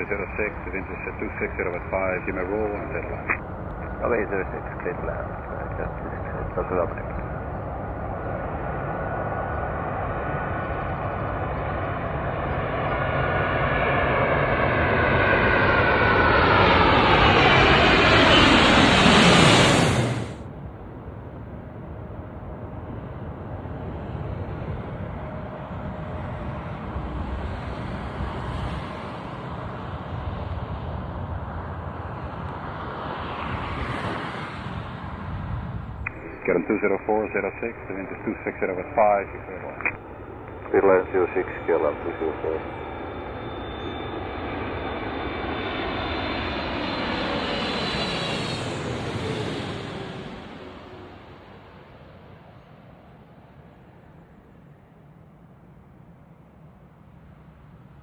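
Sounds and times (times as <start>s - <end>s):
distant jet engines rumbling: 0.0s - 52.9s.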